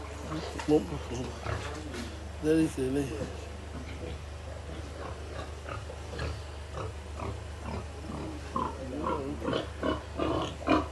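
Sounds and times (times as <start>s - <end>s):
steady low hum: 0.0s - 10.9s
pigs grunting: 0.2s - 2.1s, 3.1s - 10.9s.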